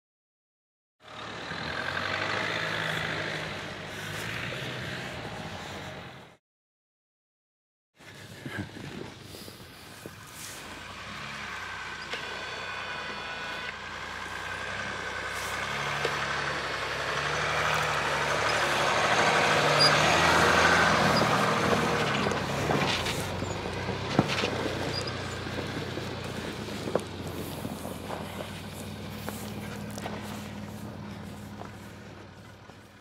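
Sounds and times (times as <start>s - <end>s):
chained tyres in snow: 1.0s - 6.4s, 8.0s - 33.0s
diesel engine pulling uphill: 1.0s - 6.4s, 8.0s - 33.0s.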